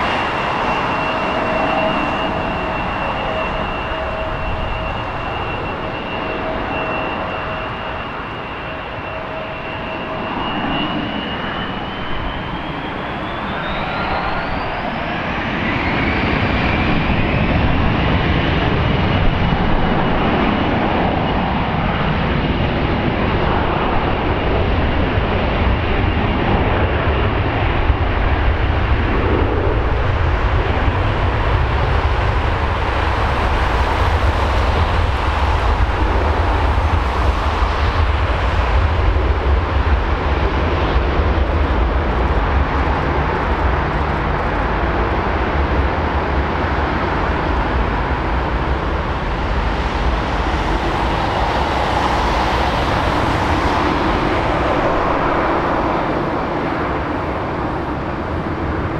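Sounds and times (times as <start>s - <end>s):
jet engine roar: 0.0s - 58.9s.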